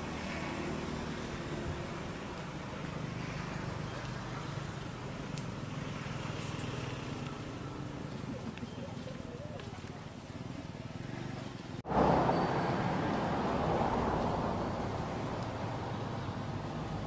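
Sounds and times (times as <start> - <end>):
outdoor background noise: 0.0 - 17.0
vehicle engine humming: 0.0 - 17.0.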